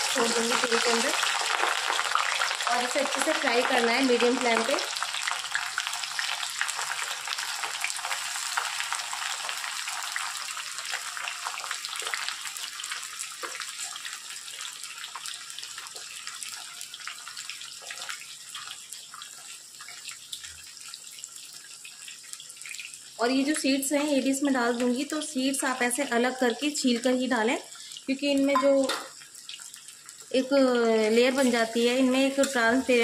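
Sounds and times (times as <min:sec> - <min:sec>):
food deep-frying in oil: 0:00.0 - 0:33.0.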